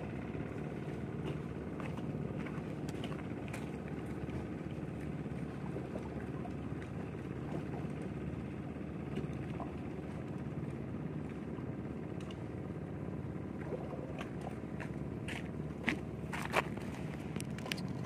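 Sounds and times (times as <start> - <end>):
lake water against rocks: 0.0 - 18.0.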